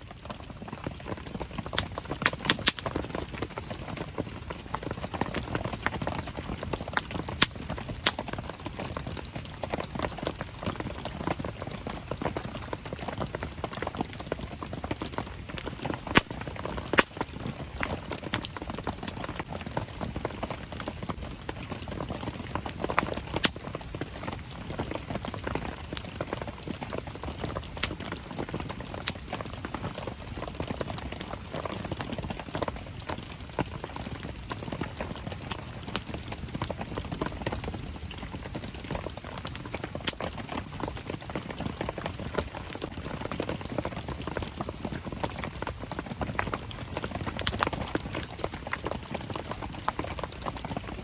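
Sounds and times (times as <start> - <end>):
campfire crackling and popping: 0.0 - 51.0
rain pattering: 0.0 - 51.0.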